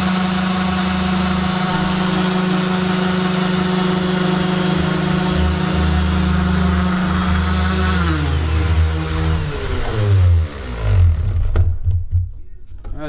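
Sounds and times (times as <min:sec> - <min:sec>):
orbital sanders humming: 0:00.0 - 0:11.7
sander spinning down: 0:00.0 - 0:11.8.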